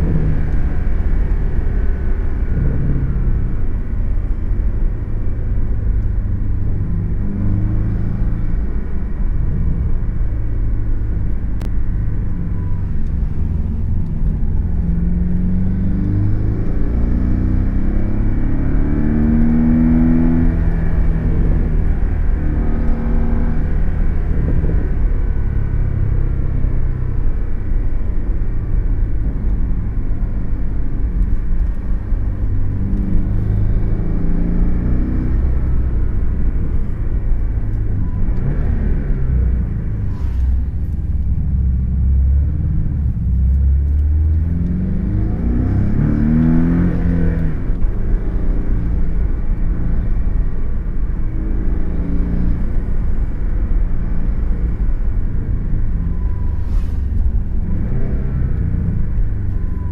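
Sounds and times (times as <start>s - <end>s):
car engine revving: 0.0s - 27.5s, 28.8s - 59.9s.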